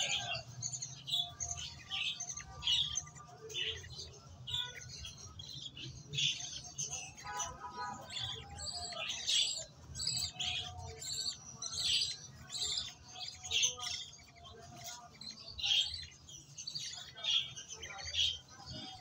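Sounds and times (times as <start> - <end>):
chicks begging chirps: 0.0 - 19.0.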